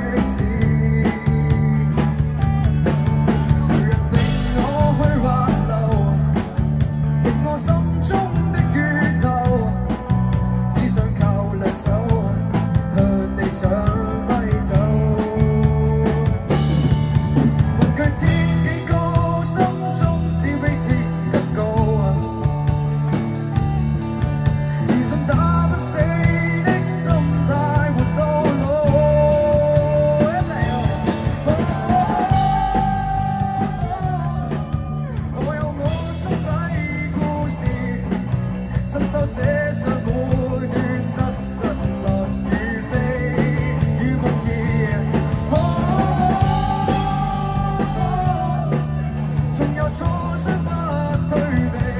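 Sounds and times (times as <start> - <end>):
drum kit: 0.0 - 51.9
electric bass: 0.0 - 51.9
electric guitar: 0.0 - 51.9.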